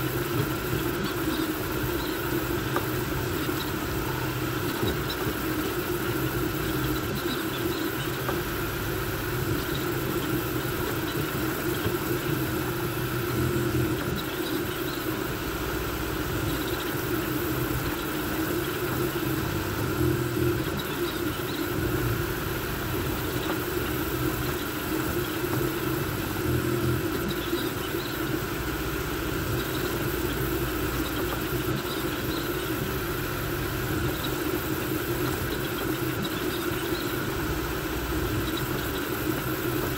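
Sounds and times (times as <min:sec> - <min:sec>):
printer motors and fans whirring: 0:00.0 - 0:39.9.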